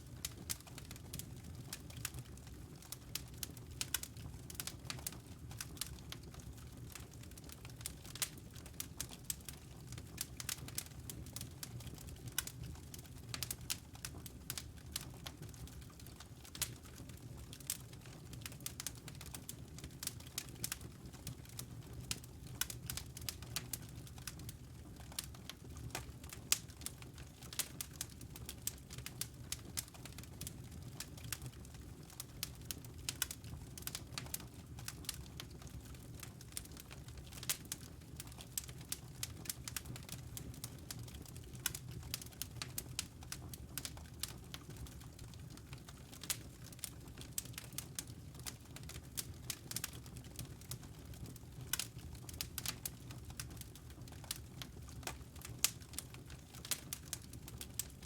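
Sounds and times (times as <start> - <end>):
fire crackling and popping: 0.1 - 58.0.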